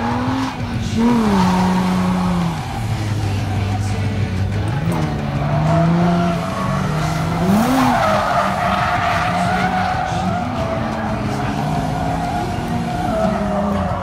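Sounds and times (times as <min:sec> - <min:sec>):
car engine revving: 0:00.0 - 0:14.0
tires squealing: 0:00.0 - 0:14.0.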